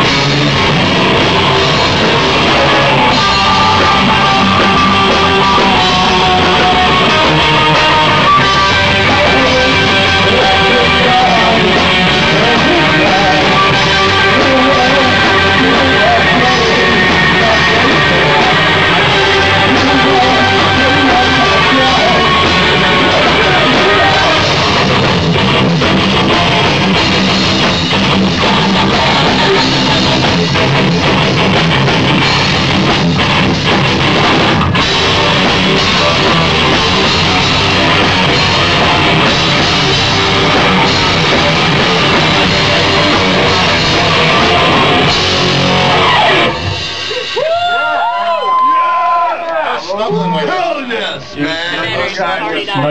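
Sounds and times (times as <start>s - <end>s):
drum kit: 0.0s - 49.3s
electric guitar: 0.0s - 49.3s
bass guitar: 0.0s - 52.9s.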